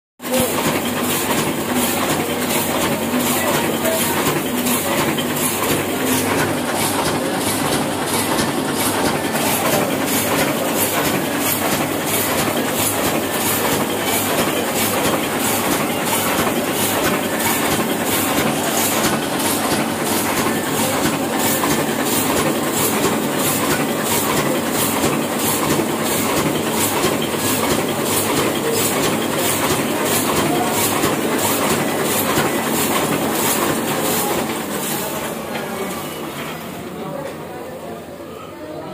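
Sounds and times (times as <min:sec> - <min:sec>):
printing press clattering: 0:00.2 - 0:37.5.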